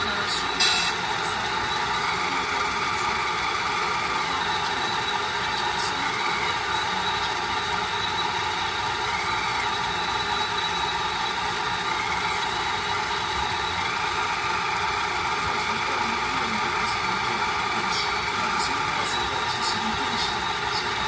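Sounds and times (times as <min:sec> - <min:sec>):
toy truck engine idling: 0:00.0 - 0:21.0.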